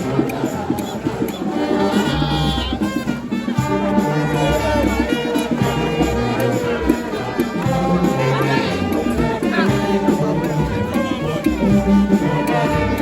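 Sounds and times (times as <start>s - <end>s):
music with bass and brass: 0.0s - 13.0s.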